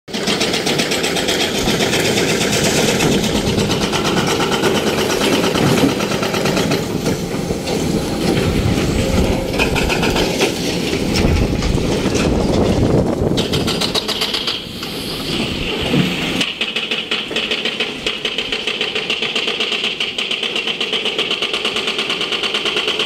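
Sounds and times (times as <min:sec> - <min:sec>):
excavator diesel engine clattering: 0:00.1 - 0:23.0.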